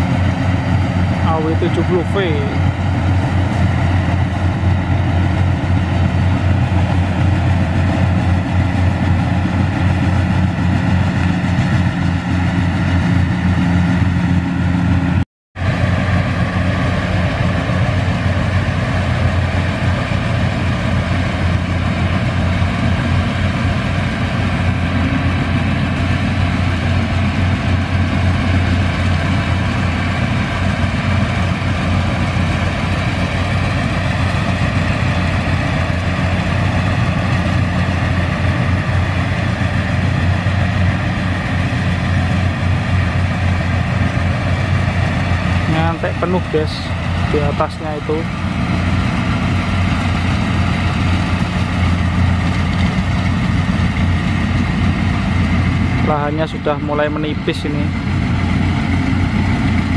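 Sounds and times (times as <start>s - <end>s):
combine harvester diesel engine: 0.0s - 59.9s.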